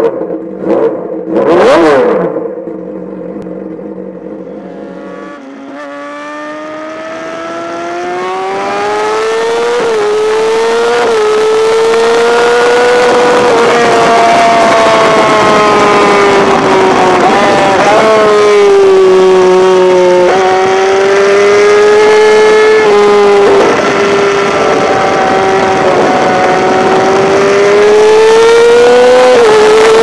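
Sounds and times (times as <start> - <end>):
motorcycle engine at full throttle: 0.0 - 30.0
rising and falling whine: 1.8 - 30.0
wind rush: 4.2 - 30.0.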